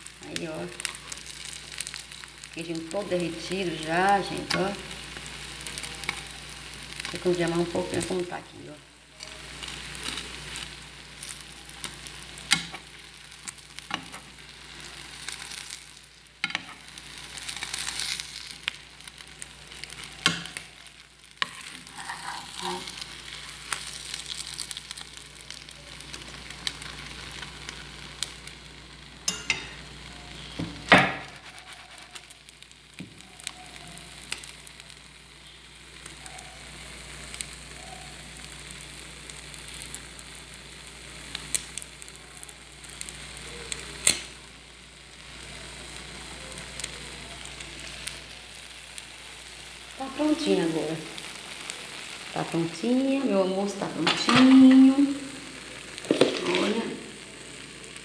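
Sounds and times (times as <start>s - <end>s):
omelette sizzling in a pan: 0.0s - 58.0s.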